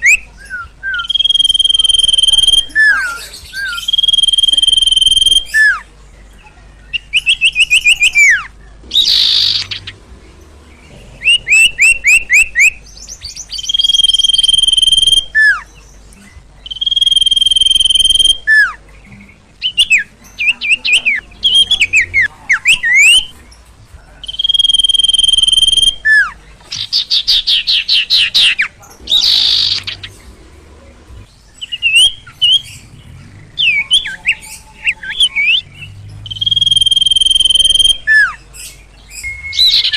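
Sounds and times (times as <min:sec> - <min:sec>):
bird singing and chirping: 0:00.0 - 0:39.9.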